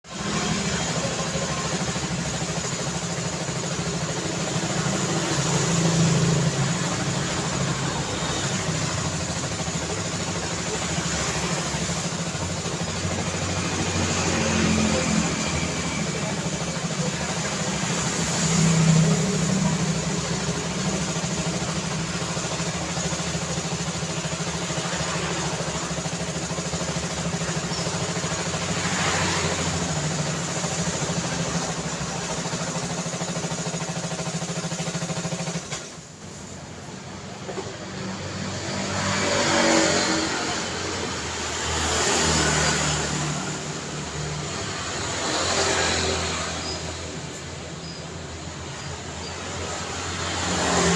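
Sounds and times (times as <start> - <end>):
hum of engines and tyres: 0.0 - 50.9
vehicles passing: 0.0 - 50.9.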